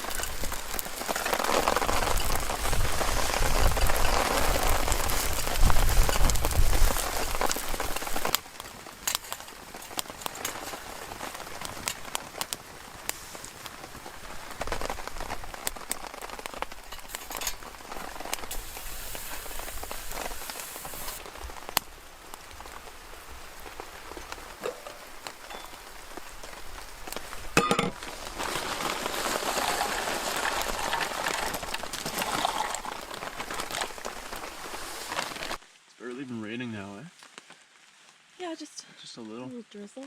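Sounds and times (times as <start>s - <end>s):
raindrops ticking: 0.0s - 38.3s
light rain falling: 0.0s - 40.0s.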